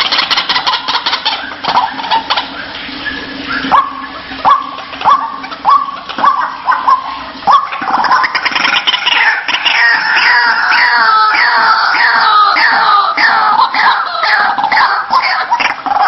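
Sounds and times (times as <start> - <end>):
waterhen harsh calls: 0.0 - 16.0.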